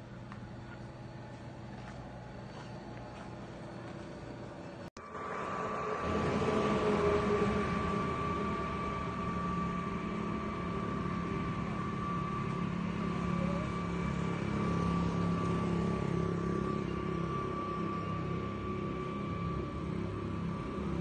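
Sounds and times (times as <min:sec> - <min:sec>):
road traffic hum: 0:00.0 - 0:21.0
thin high whine: 0:00.0 - 0:21.0.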